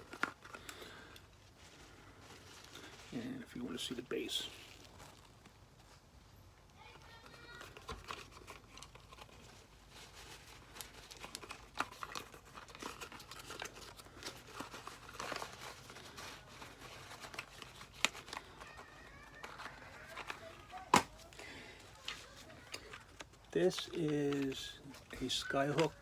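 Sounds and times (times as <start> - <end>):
packaging crinkling and rustling: 0.0 - 6.2, 6.8 - 26.0.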